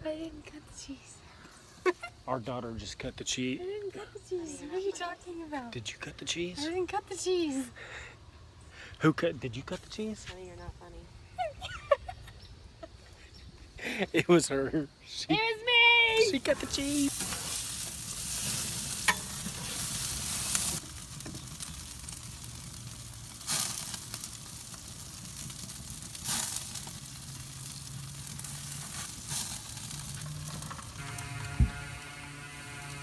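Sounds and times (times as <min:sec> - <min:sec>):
burgers sizzling on a grill: 0:01.5 - 0:11.5, 0:13.8 - 0:33.0.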